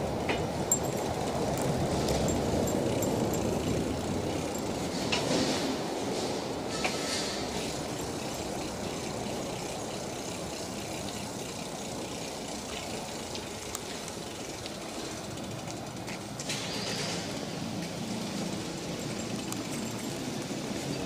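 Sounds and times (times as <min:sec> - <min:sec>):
bicycle tyre road noise: 0:00.0 - 0:21.0
bike and basket rattling: 0:00.0 - 0:21.0.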